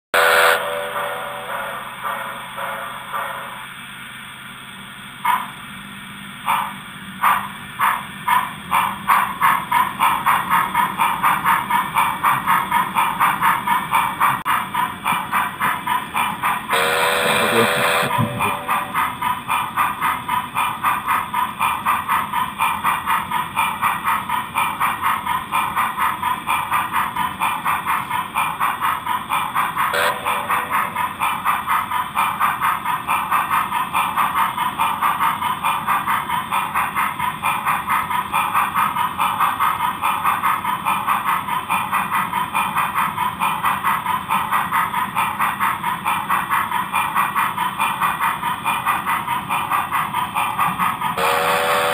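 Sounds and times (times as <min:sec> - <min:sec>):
steam locomotive chuffing: 0:00.2 - 0:51.9.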